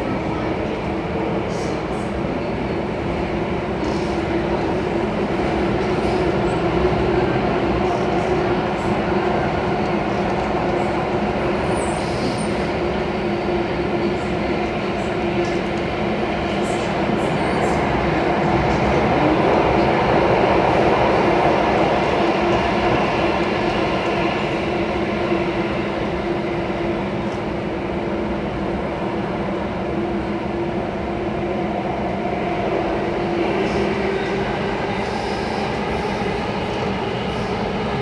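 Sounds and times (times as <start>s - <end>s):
metro train rumble in tunnel: 0.0s - 38.0s.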